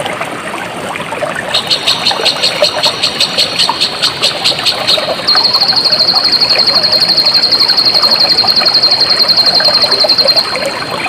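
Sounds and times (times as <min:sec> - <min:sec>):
water trickling and splashing: 0:00.0 - 0:11.0
high-pitched pulsing animal call: 0:01.5 - 0:11.0.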